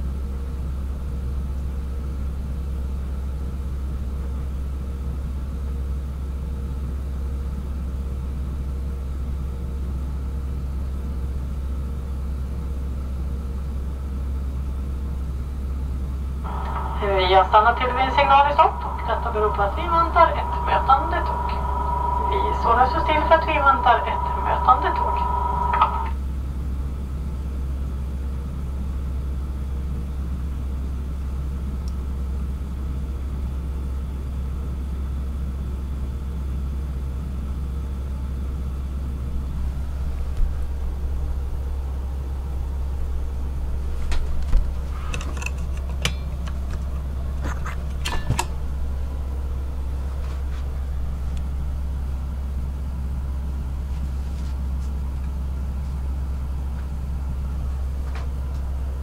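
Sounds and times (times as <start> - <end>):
low hum inside train: 0.0 - 59.0.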